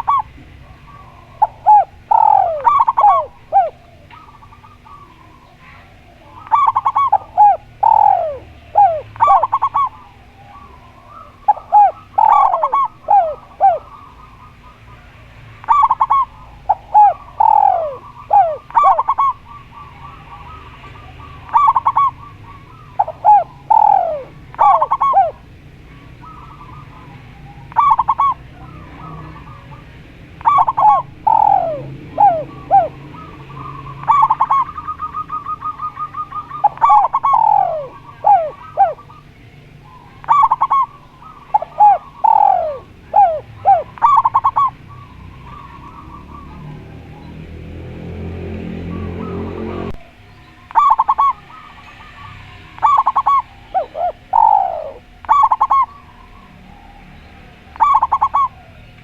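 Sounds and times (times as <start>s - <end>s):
doves cooing: 0.0s - 59.0s
faint rapid bird trill: 0.0s - 59.0s.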